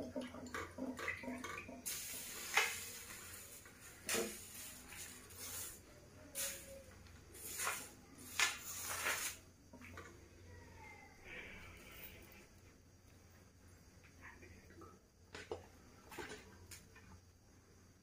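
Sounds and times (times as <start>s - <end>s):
hissing background: 1.8s - 18.0s.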